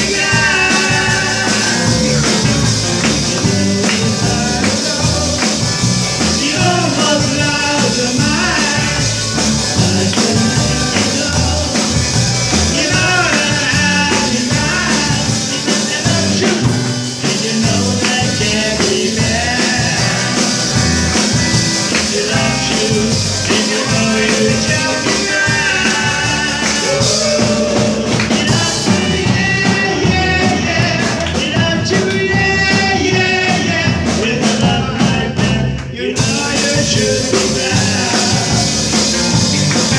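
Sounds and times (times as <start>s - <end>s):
live rock band playing: 0.0s - 39.9s
person singing lead vocal: 0.0s - 39.9s.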